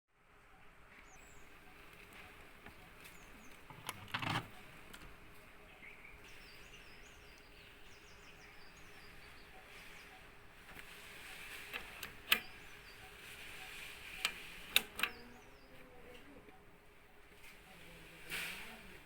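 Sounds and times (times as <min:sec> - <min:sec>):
small birds chirping: 0:00.3 - 0:19.0.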